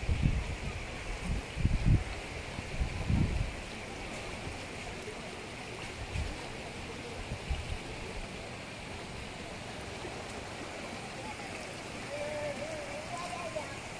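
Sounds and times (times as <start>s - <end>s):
stream water rushing: 0.0s - 13.9s.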